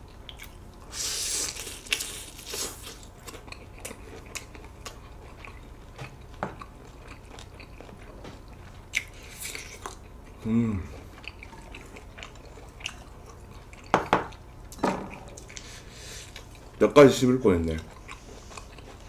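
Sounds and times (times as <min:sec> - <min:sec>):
wet chewing: 0:00.3 - 0:16.8, 0:17.6 - 0:19.0.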